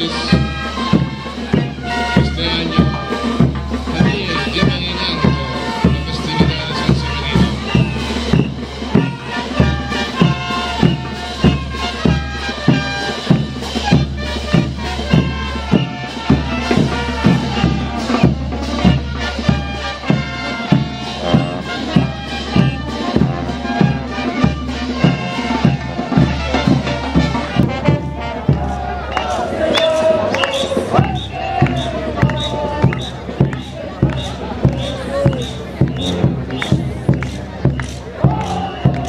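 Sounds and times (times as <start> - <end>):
bass drum beat: 0.0 - 39.0
wind instrument melody: 0.0 - 39.0.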